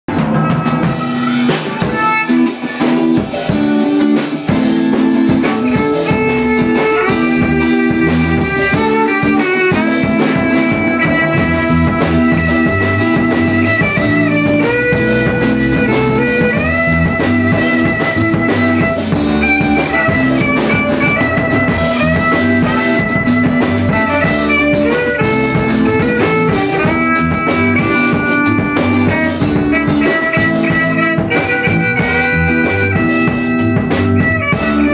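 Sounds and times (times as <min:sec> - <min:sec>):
drum kit: 0:00.1 - 0:34.9
electric guitar lead with bends: 0:00.1 - 0:34.9.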